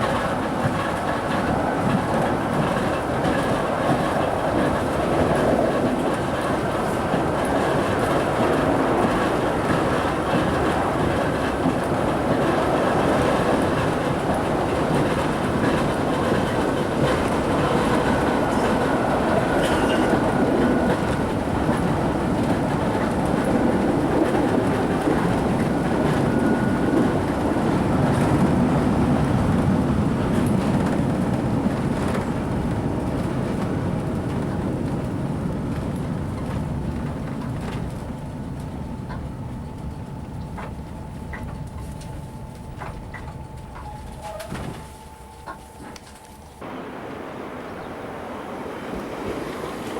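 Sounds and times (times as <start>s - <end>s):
rail-joint clickety-clack: 0.0s - 46.6s
train wheels rumbling on track: 0.0s - 49.9s.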